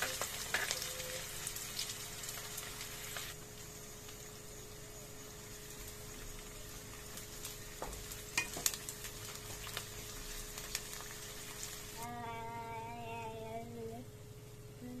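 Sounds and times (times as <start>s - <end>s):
onions sizzling in oil: 0.0s - 14.8s.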